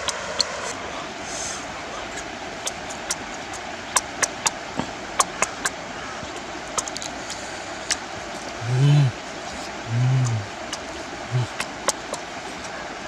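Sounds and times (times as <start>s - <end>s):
steady outdoor hiss: 0.0s - 13.0s
man chewing with wet smacks: 1.8s - 13.0s.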